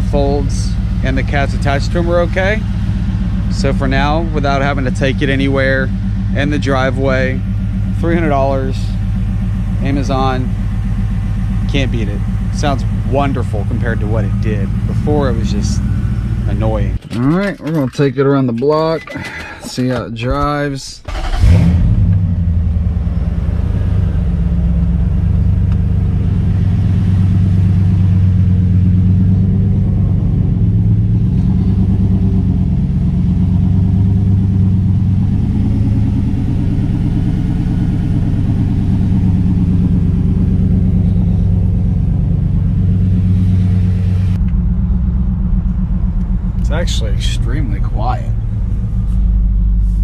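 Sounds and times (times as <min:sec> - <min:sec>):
engine exhaust deep rumble: 0:00.0 - 0:50.0.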